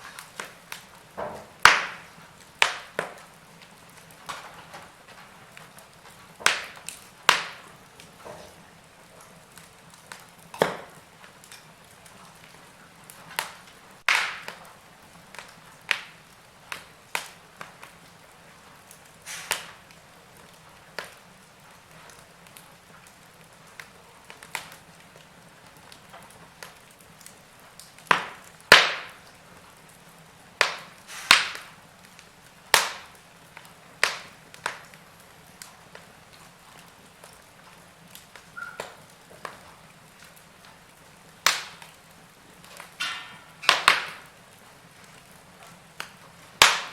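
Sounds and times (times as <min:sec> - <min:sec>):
fireplace fire crackling: 0:00.0 - 0:46.9.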